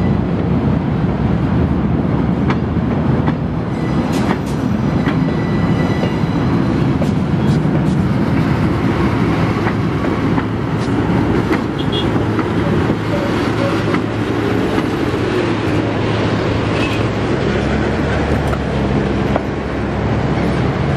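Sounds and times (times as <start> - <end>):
diesel locomotive engines running: 0.0 - 20.9
road traffic driving: 0.0 - 20.9.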